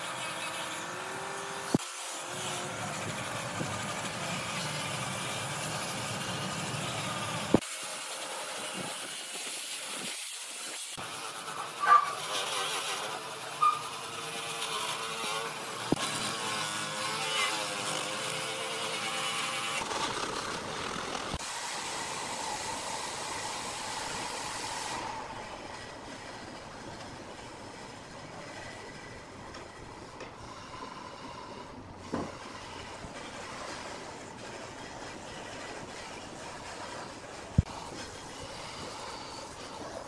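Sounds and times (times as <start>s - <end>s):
angle grinder sanding wood: 0.0s - 40.0s.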